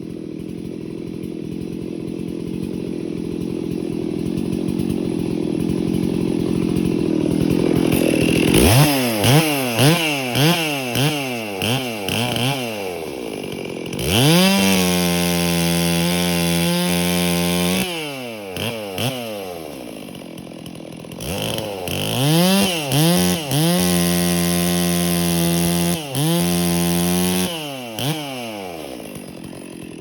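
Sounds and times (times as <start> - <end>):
chainsaw revving: 0.0 - 30.0.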